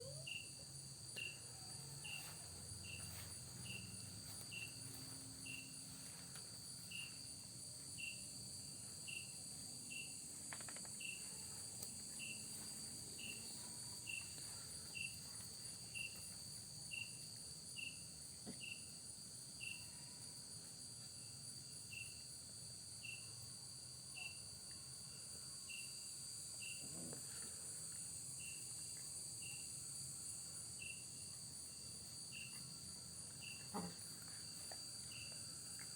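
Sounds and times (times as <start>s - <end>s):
cricket chirping: 0.0s - 35.9s
high-pitched insect trill: 0.0s - 35.9s.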